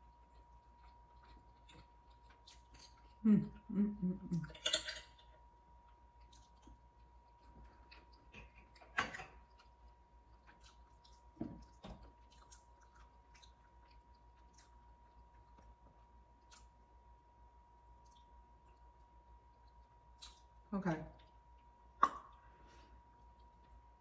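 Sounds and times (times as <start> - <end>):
chewing and mouth sounds: 0.0 - 3.7, 5.8 - 17.1, 17.8 - 24.0.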